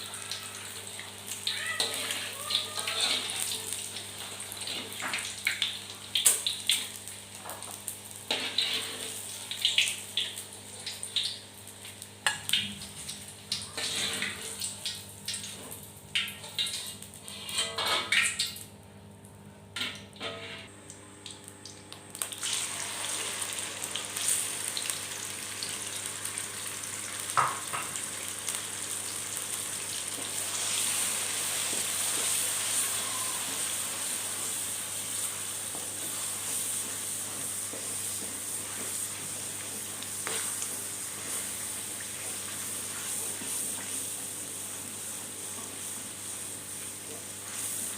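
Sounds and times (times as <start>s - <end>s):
food sizzling in hot oil: 0.0s - 18.6s, 21.5s - 47.9s.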